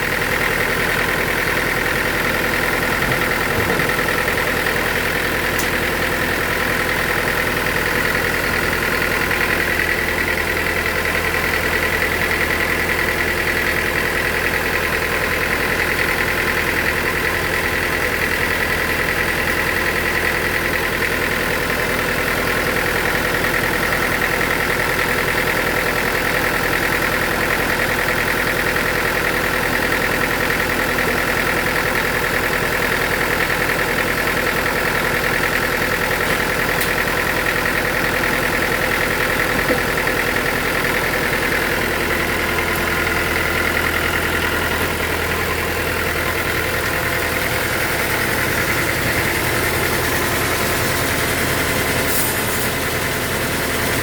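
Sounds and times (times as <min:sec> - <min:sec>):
sawmill machinery humming and whining: 0:00.0 - 0:54.0.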